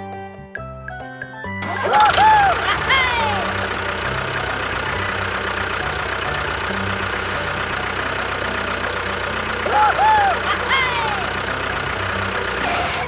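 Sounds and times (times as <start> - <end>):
tractor engine idling: 1.6 - 13.0.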